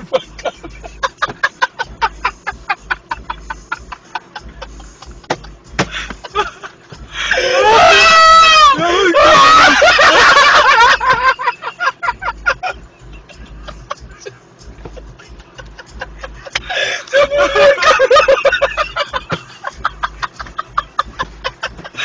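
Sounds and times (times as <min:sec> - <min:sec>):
high-pitched laugh: 0:00.0 - 0:14.4, 0:15.0 - 0:22.0
people laughing: 0:00.0 - 0:22.0.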